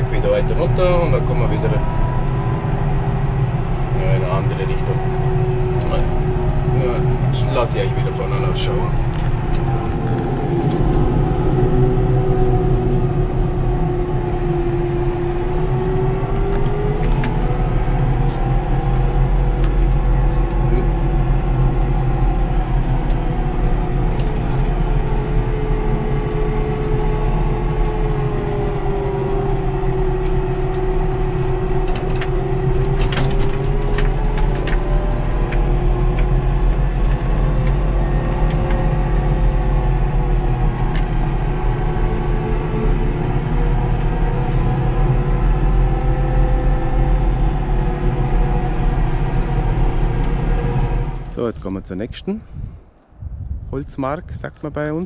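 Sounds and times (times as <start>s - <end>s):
tractor engine rumble with whine: 0.0s - 55.0s.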